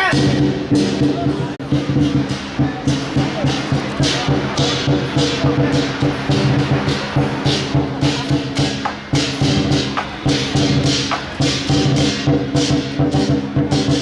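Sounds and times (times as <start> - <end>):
cymbals clashing: 0.0 - 14.0
drum beat: 0.0 - 14.0
gong: 0.1 - 14.0.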